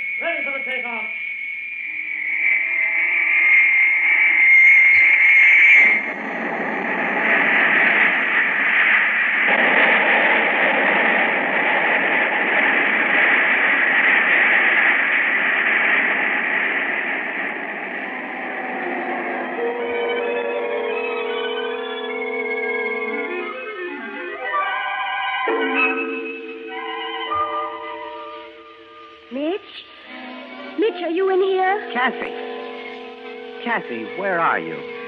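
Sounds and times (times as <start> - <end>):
rocket taking off: 0.0 - 35.0.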